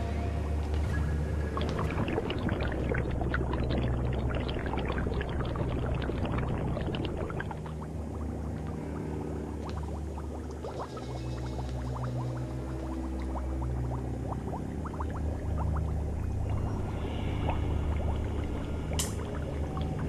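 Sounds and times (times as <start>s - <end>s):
liquid bubbling and gurgling: 0.0s - 20.0s
low steady hum: 0.0s - 20.0s.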